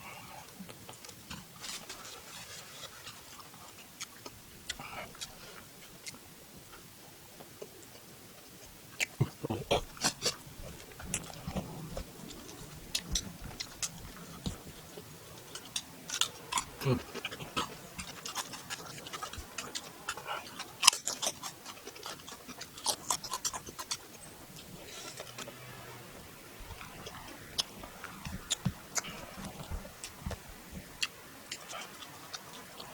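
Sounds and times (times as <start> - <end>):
chewing with mouth clicks: 0.0 - 32.9.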